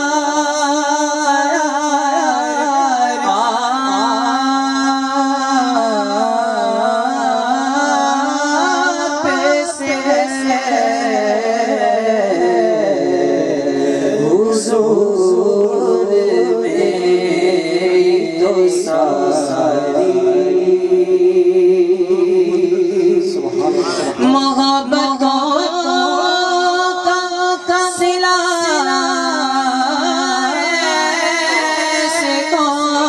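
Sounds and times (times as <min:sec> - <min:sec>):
man singing into microphone: 0:00.0 - 0:33.0.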